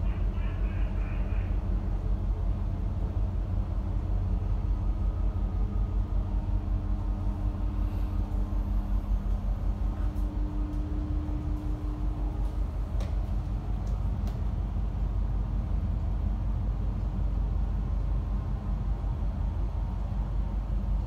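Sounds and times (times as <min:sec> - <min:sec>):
diesel engines rumbling: 0:00.0 - 0:21.0.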